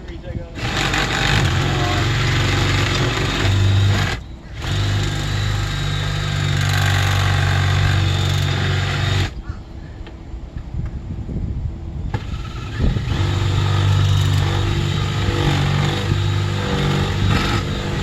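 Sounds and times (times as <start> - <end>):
power tool cutting metal: 0.6 - 9.4, 12.2 - 18.0.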